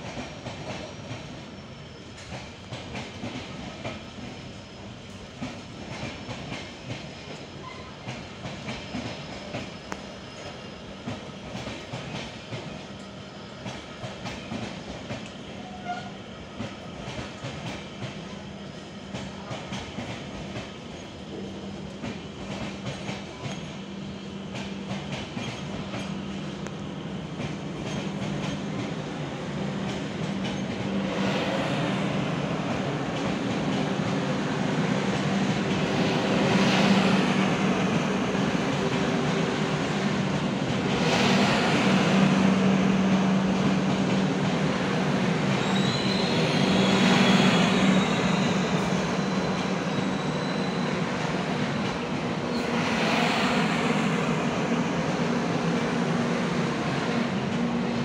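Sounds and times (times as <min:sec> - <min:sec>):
train low hum: 0:00.0 - 0:58.0.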